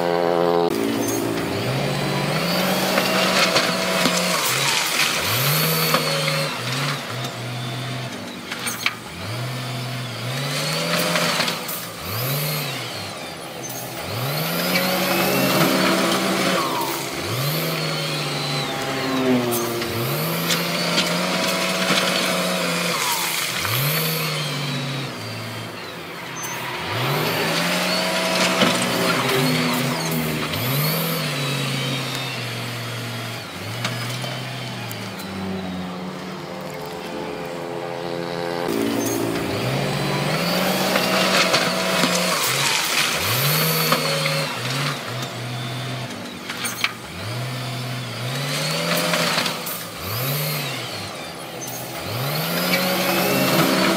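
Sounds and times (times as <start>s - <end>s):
diesel engine revving: 0.0s - 53.9s.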